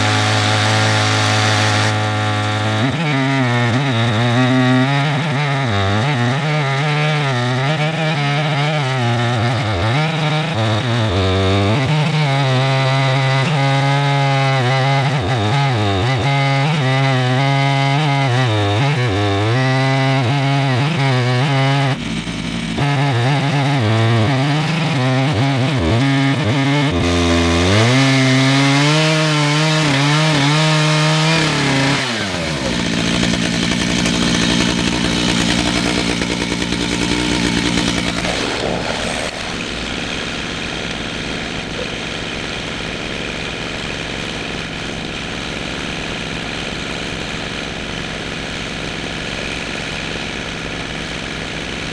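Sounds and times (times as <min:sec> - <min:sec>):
chainsaw cutting log: 0:00.0 - 0:51.9.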